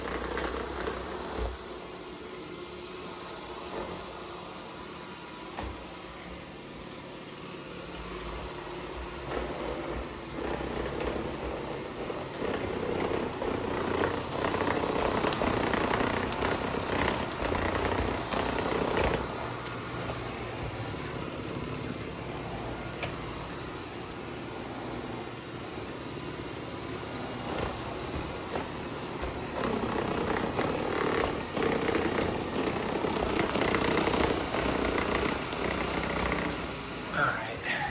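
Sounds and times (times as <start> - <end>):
robot vacuum vibrating noise: 0.0 - 37.1.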